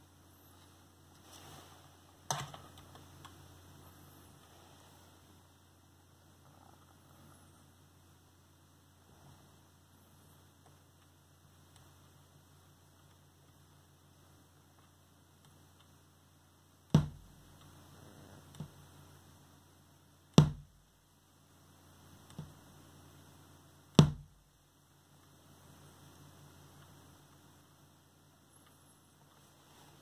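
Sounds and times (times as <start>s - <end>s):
low electrical hum and hiss: 0.0s - 30.0s.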